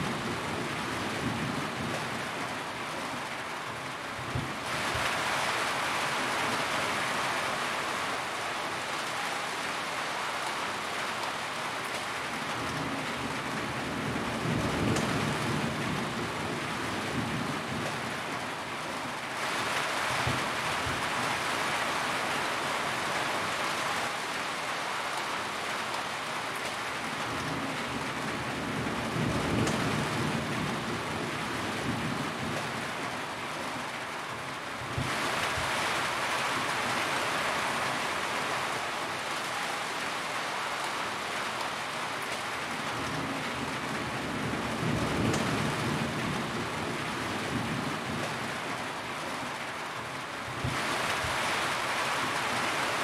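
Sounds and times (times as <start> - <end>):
heavy rain on metal roof: 0.0 - 53.0.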